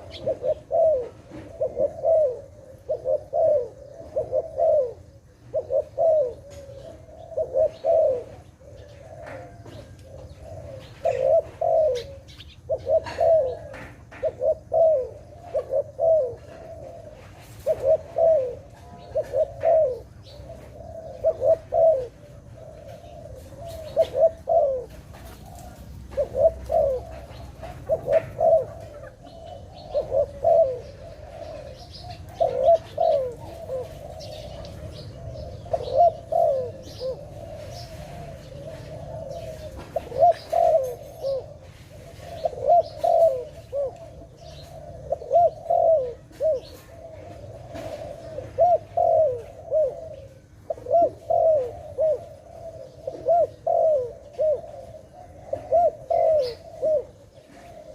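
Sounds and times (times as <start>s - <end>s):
dove cooing: 0.0s - 57.9s
small birds chirping: 0.0s - 57.9s.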